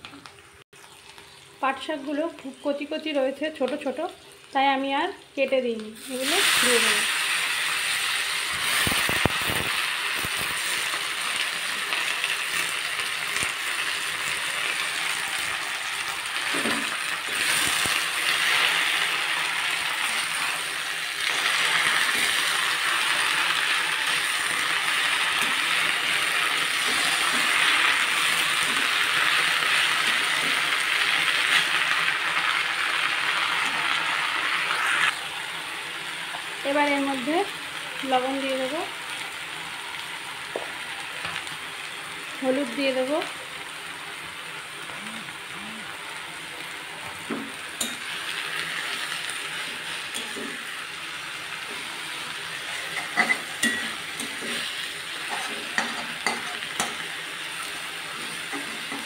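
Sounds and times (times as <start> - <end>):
leaves sizzling in hot oil: 0.0 - 59.0.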